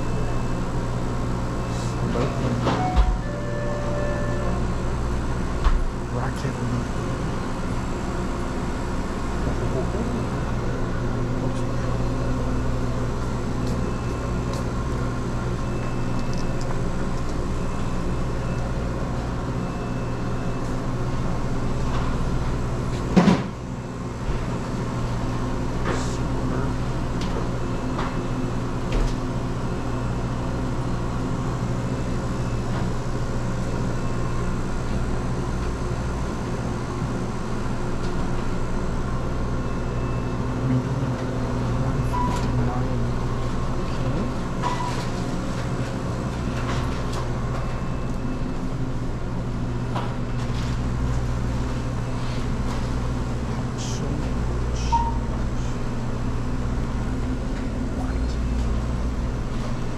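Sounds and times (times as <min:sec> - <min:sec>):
refrigeration machinery humming: 0:00.0 - 0:59.9.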